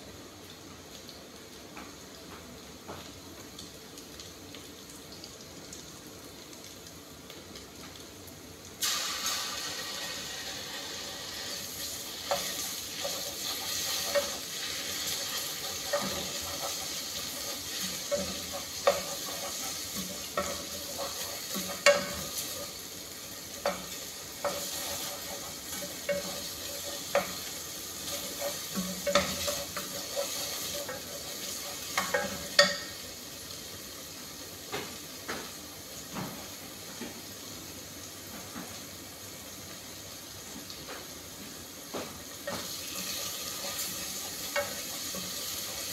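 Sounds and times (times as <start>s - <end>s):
food sizzling: 3.7s - 45.9s.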